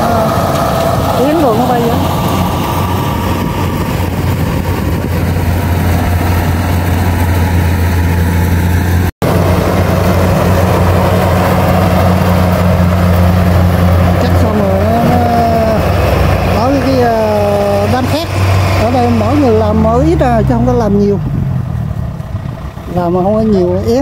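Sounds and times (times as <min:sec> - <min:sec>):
combine harvester engine running: 0:00.0 - 0:24.0.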